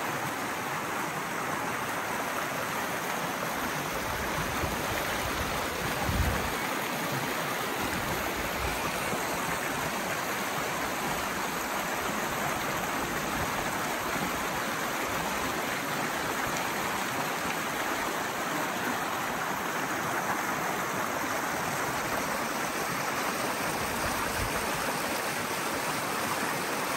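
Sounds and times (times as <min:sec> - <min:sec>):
creek water rushing over stones: 0:00.0 - 0:26.9.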